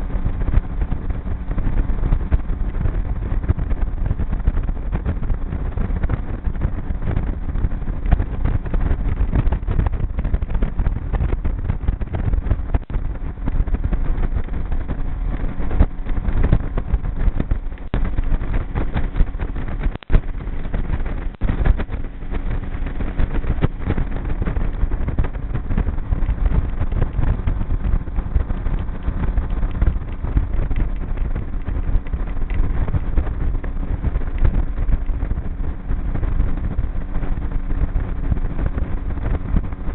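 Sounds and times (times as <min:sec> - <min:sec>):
outboard motor running: 0:00.0 - 0:39.9
wind rushing over microphone: 0:00.0 - 0:39.9.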